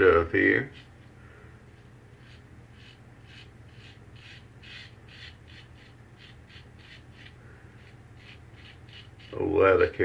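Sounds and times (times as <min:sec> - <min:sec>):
razor scraping through stubble: 0:00.0 - 0:01.1, 0:01.7 - 0:10.0
faint steady hum: 0:00.0 - 0:10.0.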